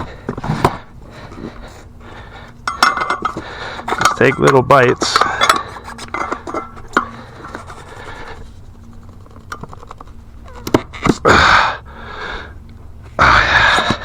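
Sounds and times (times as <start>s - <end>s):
tire irons clicking on wheel rim: 0.1s - 11.7s.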